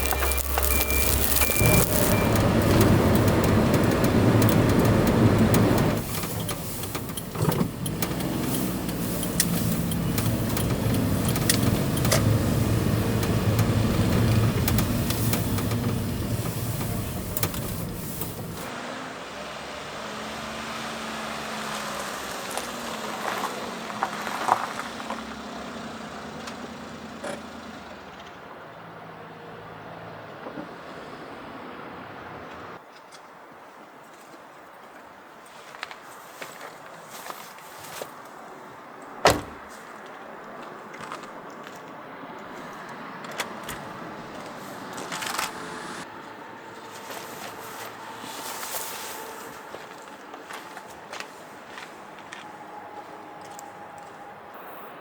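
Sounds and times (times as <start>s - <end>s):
vehicle engine rumble: 0.0s - 32.8s, 38.8s - 55.0s
road and wind noise: 0.0s - 55.0s.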